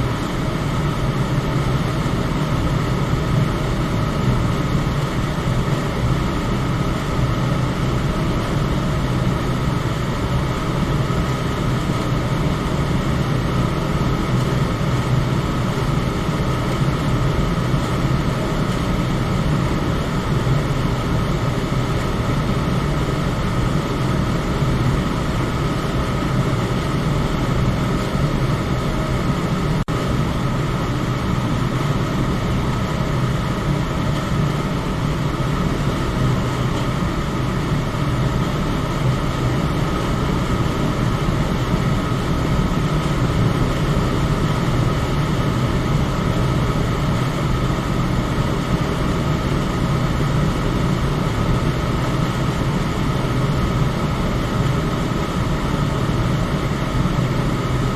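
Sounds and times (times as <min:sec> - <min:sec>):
electric fan whooshing hum: 0:00.0 - 0:57.9.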